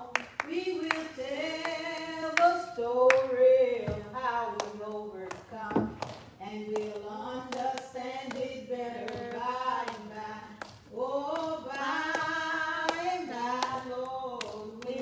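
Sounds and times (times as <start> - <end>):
hand claps: 0.0 - 3.4, 4.5 - 15.0
woman singing a hymn: 0.0 - 15.0.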